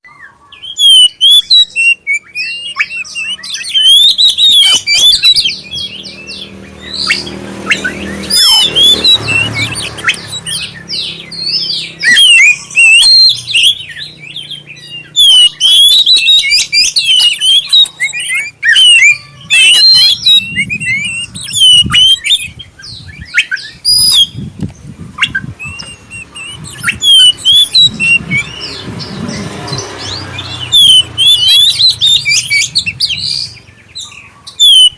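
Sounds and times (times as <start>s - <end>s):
bird singing whistles and chirps: 0.0s - 34.9s.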